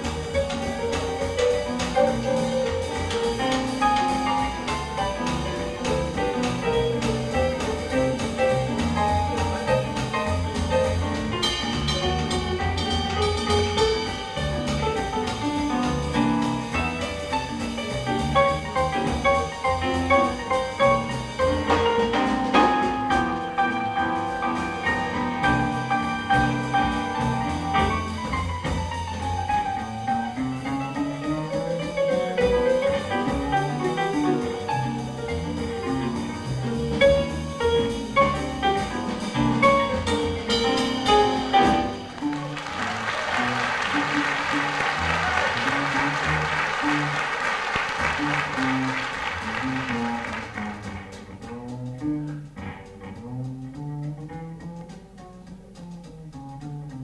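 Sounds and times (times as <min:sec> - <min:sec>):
piano solo: 0:00.0 - 0:55.7
drum kit steady beat: 0:00.0 - 0:57.0
walking string bass: 0:00.0 - 0:57.0.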